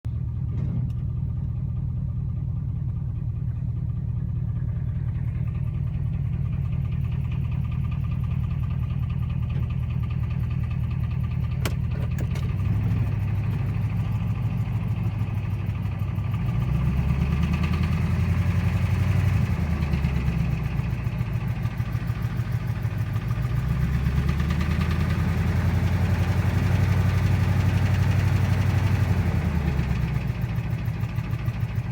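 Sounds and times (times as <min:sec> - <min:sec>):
car engine idling with knock: 0:00.1 - 0:31.9.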